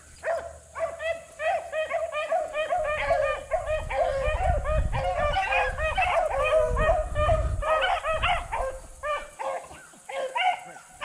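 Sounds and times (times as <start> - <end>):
hounds baying: 0.2 - 11.0.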